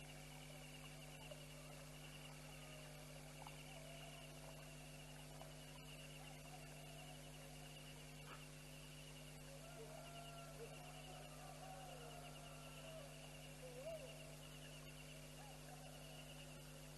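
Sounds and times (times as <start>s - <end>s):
insects trilling: 0.0s - 16.9s
low electrical hum: 0.0s - 16.9s.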